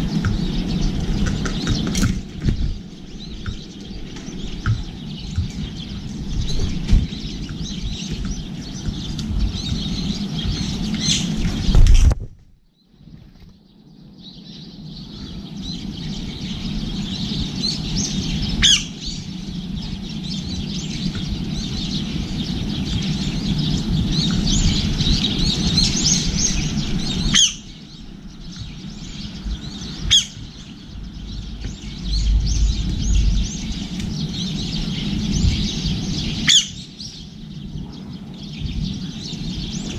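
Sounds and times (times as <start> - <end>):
birds chirping: 0.0 - 39.9
low background rumble: 0.0 - 39.9.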